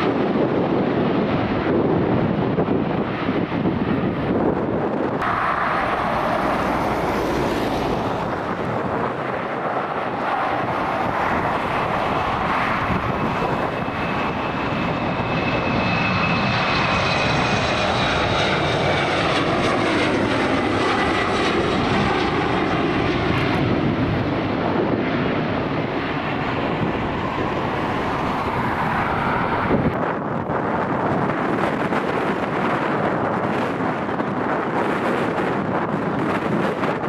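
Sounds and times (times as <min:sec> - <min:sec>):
airliner engine rush and whine: 0:00.0 - 0:37.0.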